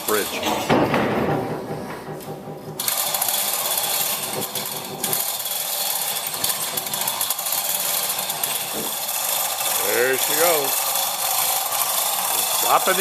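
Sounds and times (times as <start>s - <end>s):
hoist chain clattering: 2.1s - 13.0s.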